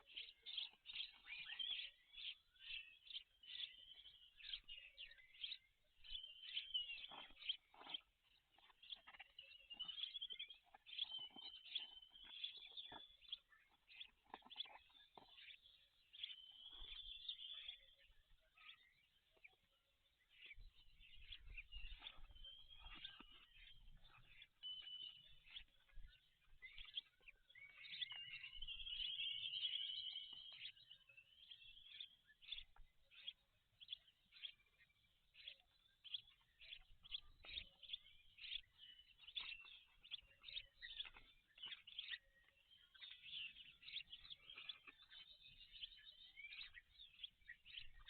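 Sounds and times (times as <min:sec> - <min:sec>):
small birds chirping and trilling: 0:00.0 - 0:48.0.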